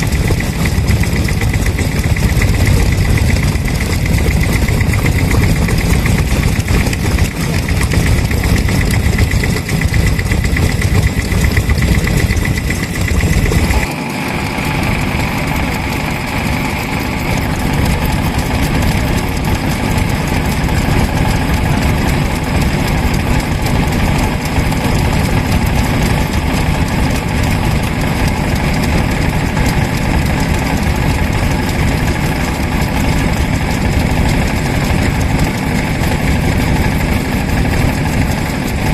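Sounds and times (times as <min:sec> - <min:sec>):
stationary engines running: 0:00.0 - 0:38.9.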